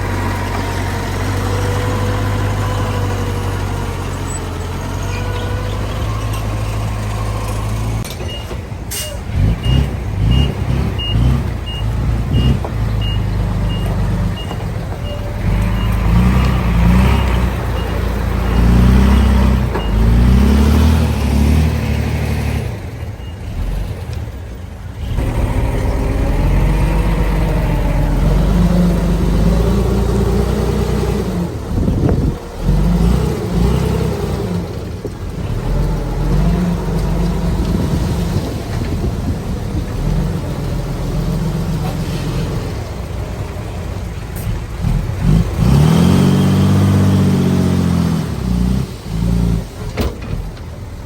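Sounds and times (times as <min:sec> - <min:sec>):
heavy diesel engines working: 0:00.0 - 0:51.0.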